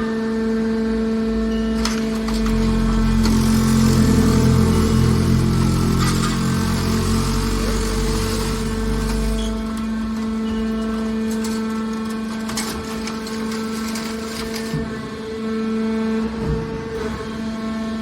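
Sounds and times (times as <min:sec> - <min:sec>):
scrap metal baler humming: 0:00.0 - 0:18.0.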